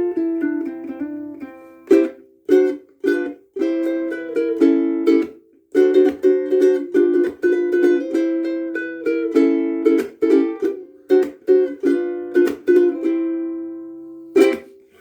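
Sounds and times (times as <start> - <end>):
ukulele strumming chords: 0.0 - 15.0.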